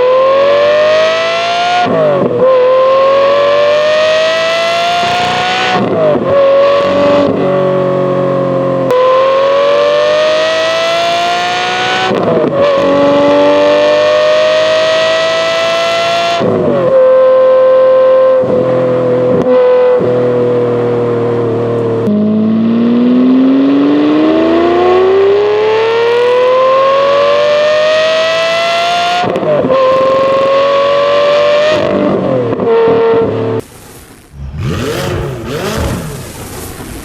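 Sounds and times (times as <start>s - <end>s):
sports car engine accelerating through gears: 0.0s - 33.6s, 34.3s - 37.0s.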